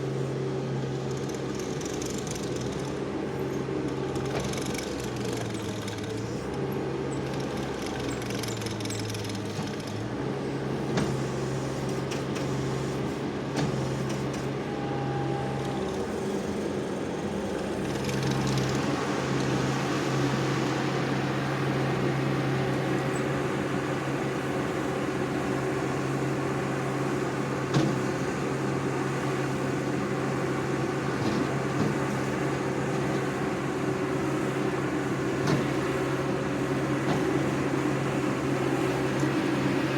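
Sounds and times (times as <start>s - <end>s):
diesel loader engine running: 0.0s - 39.9s.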